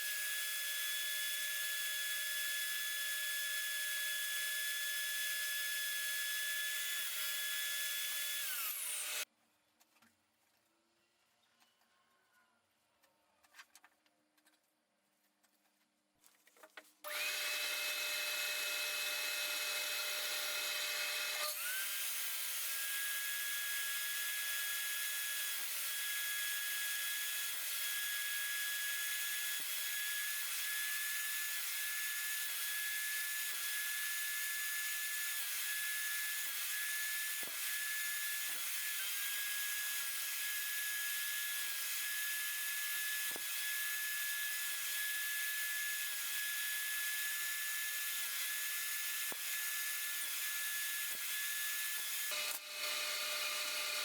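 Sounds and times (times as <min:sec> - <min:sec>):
power tool cutting wood: 0:00.0 - 0:09.3, 0:17.0 - 0:54.0
power tool whining: 0:00.0 - 0:09.3, 0:17.0 - 0:54.0.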